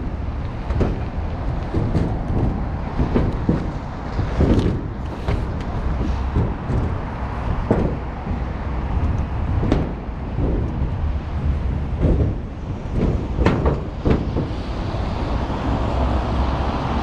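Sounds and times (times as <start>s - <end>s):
city traffic hum: 0.0s - 17.0s
wind buffeting microphone: 0.0s - 17.0s
knocks and taps: 0.4s - 14.7s.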